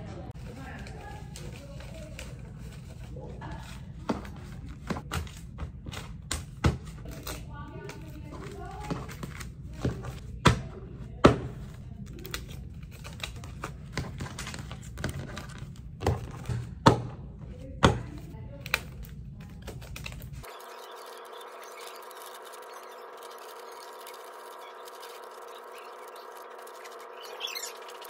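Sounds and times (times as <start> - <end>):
paper banknotes rustling: 0.4 - 10.4, 11.0 - 16.8, 17.5 - 28.0.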